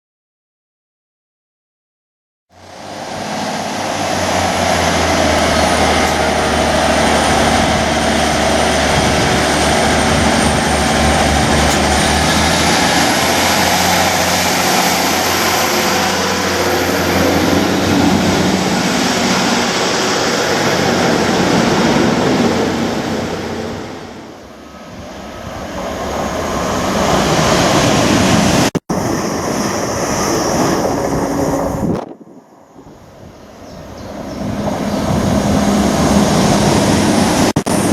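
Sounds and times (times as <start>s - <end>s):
high whine: 2.5s - 37.9s
passenger train passing: 2.5s - 37.9s.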